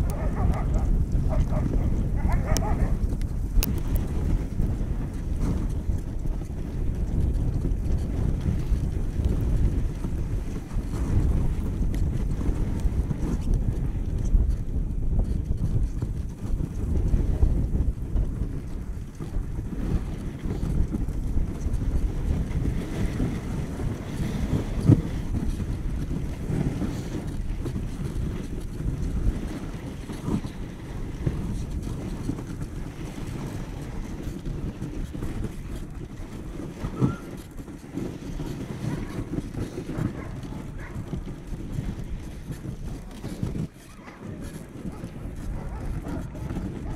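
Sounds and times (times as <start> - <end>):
sled bumps: 0.0 - 46.9
sled runners rumbling on snow: 0.0 - 46.9
wind buffeting microphone: 0.0 - 46.9.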